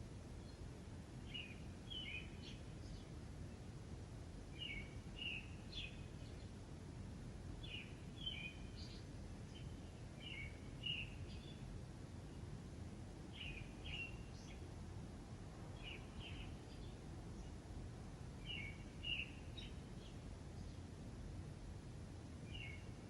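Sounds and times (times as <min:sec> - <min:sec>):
songbird chirping: 0:00.3 - 0:06.7, 0:07.5 - 0:21.7, 0:22.4 - 0:23.0.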